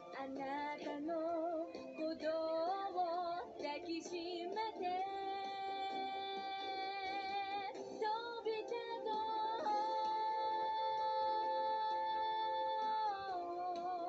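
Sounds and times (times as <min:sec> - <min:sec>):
backing music: 0:00.0 - 0:14.0.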